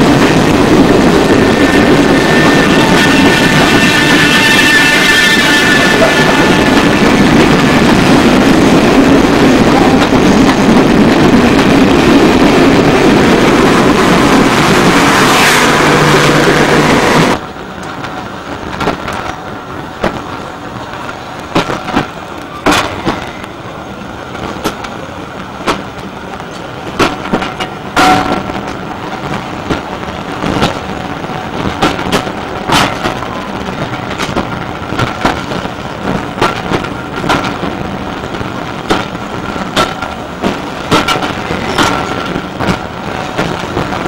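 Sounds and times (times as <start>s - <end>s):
train carriages rushing rumble: 0.0s - 44.0s
wheels clacking over rail joints: 0.0s - 44.0s.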